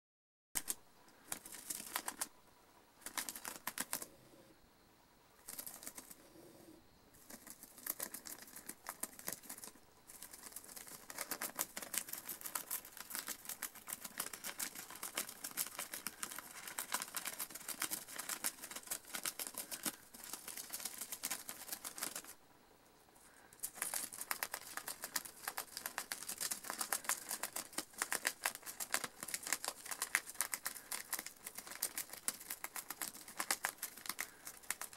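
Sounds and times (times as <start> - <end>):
gerbil gnawing paper: 0.6 - 2.3, 3.0 - 4.1, 5.4 - 6.2, 7.2 - 22.4, 23.6 - 34.9.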